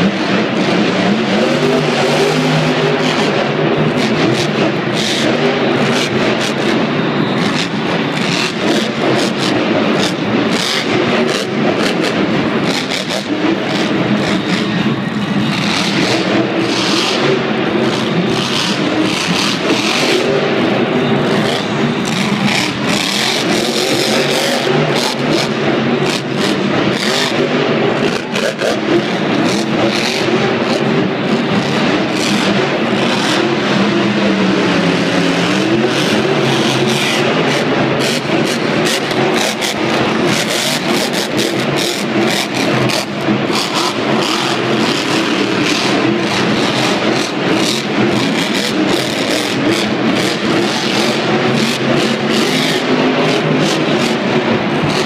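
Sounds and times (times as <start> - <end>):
monster truck engine revving: 0.0 - 55.0.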